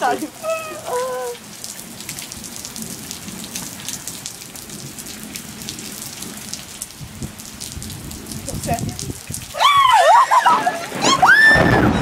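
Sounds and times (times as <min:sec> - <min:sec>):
raindrops pattering: 0:00.0 - 0:12.0
steady rain: 0:00.0 - 0:12.0.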